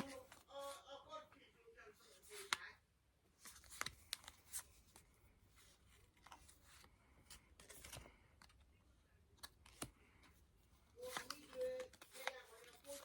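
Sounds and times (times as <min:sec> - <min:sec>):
trading cards being handled: 0:00.0 - 0:00.8, 0:02.0 - 0:02.8, 0:03.4 - 0:13.0.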